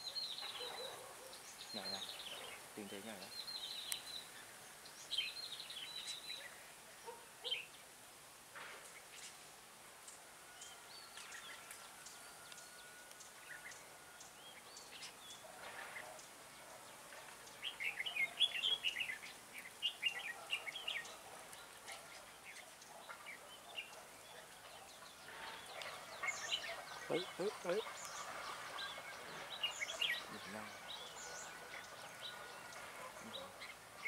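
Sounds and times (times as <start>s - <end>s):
birds chirping and singing: 0.0s - 7.9s, 10.0s - 34.0s.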